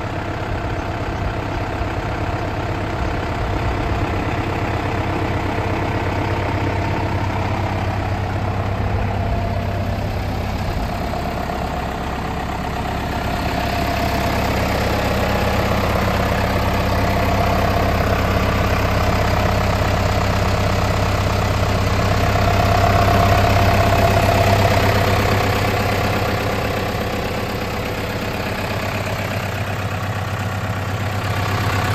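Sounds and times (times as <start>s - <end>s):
tractor diesel engine idling: 0.0s - 31.9s.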